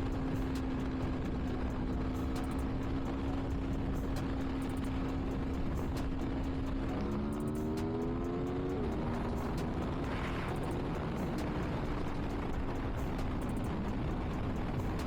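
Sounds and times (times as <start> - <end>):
motorcycle engine revving: 0.0 - 15.0
wind noise: 0.0 - 15.0.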